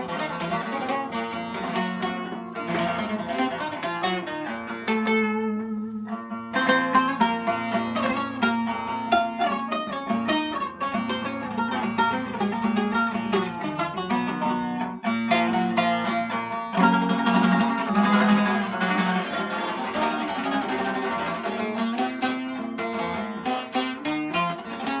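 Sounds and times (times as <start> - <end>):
long-necked lute plucked fast: 0.0 - 25.0.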